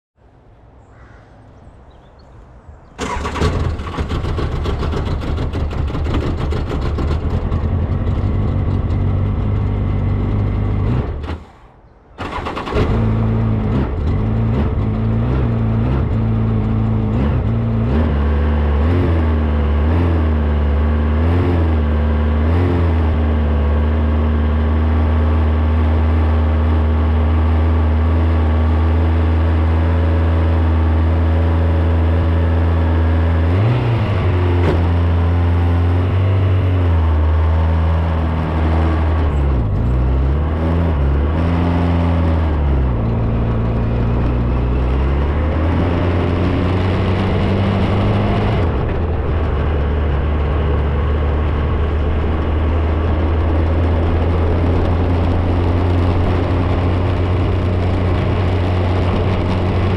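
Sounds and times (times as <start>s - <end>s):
motorcycle engine starting and revving: 3.0s - 59.9s.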